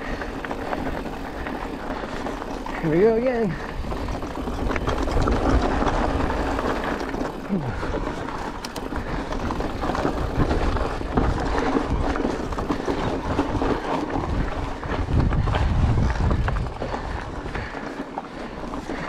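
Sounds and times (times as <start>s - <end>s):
bike rattling: 0.0s - 19.0s
tyres crunching on gravel: 0.0s - 19.0s
wind rumbling on microphone: 0.0s - 19.0s.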